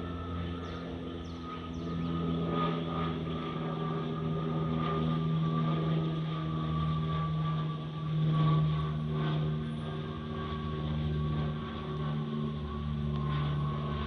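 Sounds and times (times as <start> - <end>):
aircraft engine whine: 0.0 - 14.0.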